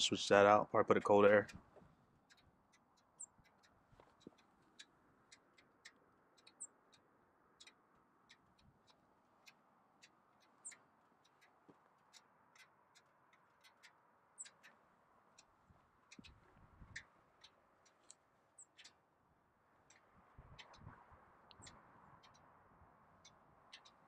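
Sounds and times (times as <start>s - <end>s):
faint ticks: 1.0s - 19.0s, 19.8s - 22.6s, 23.2s - 24.0s.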